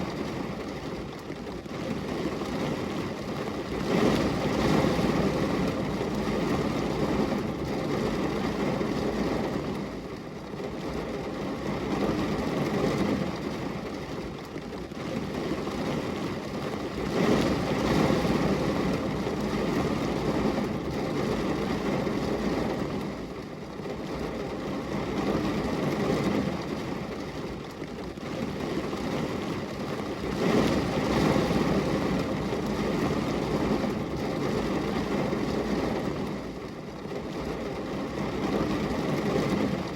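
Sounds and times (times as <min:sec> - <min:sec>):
rain on a glass window: 0:00.0 - 0:39.9.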